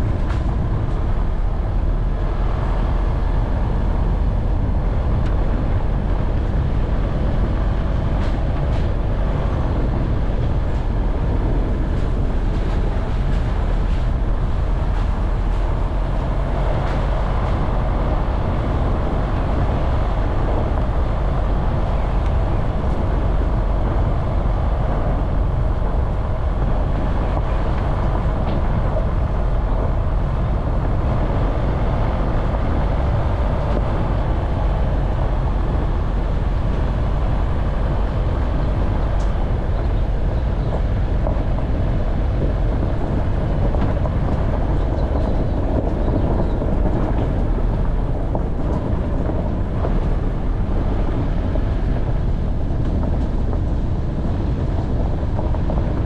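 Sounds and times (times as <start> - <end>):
off-road vehicle engine: 0.0 - 56.0
rumble of vehicle on rough track: 0.0 - 56.0.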